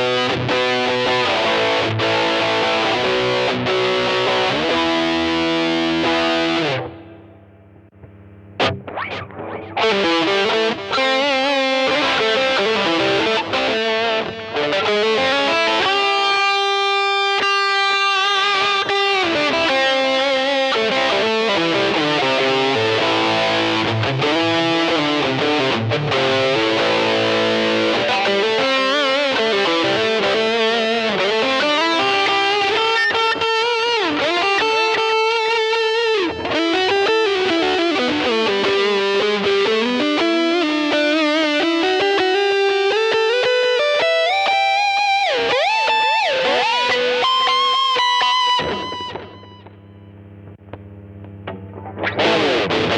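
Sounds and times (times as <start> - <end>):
distorted electric guitar: 0.0 - 52.9.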